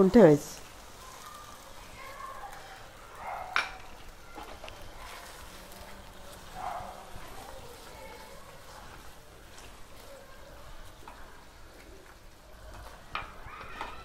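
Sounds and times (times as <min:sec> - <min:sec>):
spatula stirring watery gravy: 0:00.6 - 0:14.0.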